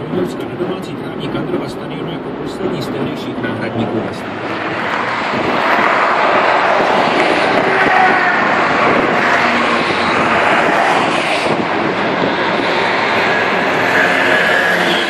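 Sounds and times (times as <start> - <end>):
armoured vehicle passing: 0.0 - 15.0
traffic drone of engines and tyres: 0.0 - 15.0.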